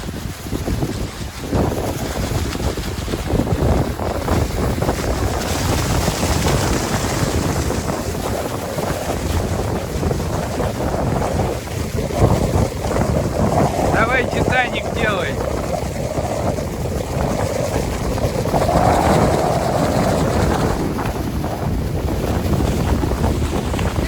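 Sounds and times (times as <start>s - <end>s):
surf rushing on shore: 0.0s - 24.0s
wind buffeting microphone: 0.0s - 24.0s.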